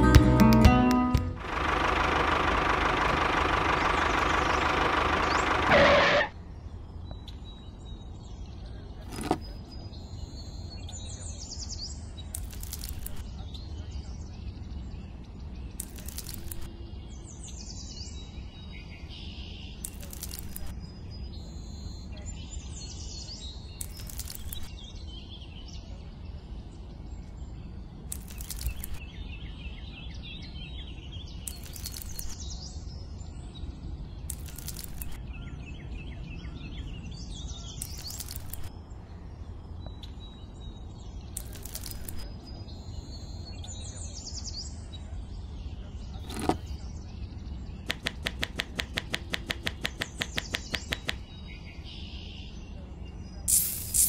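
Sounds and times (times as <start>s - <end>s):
low outdoor background noise: 1.3s - 54.0s
small birds chirping: 1.4s - 54.0s.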